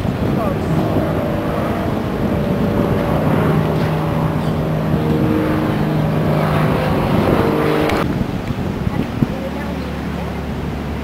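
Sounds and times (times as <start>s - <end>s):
motor yacht engine drone: 0.0s - 11.0s.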